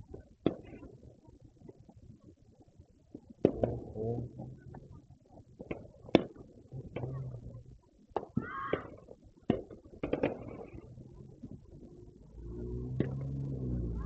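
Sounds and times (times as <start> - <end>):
distant fireworks pops and bangs: 0.0 - 12.0, 12.9 - 13.5.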